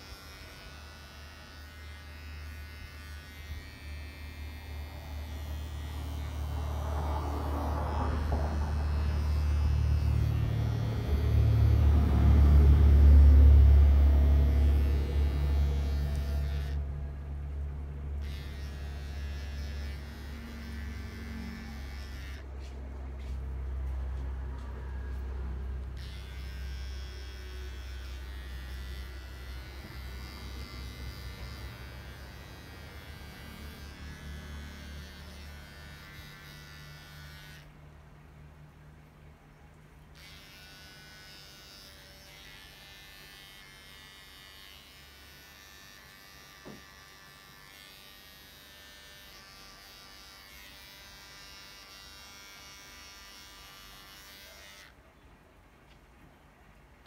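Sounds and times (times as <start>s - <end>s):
electric clippers buzzing: 0.0s - 37.7s, 40.1s - 55.0s.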